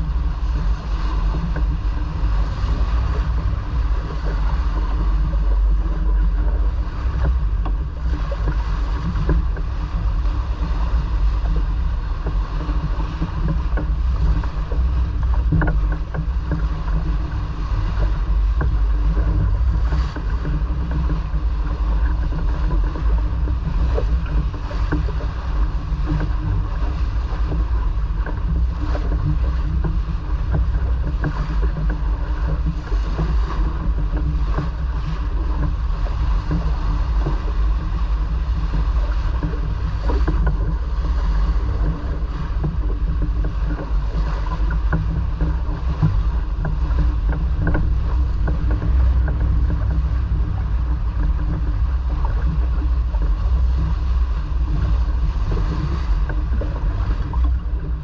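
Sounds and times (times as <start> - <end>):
water running along hull: 0.0 - 58.0
wind buffeting microphone: 0.0 - 58.0.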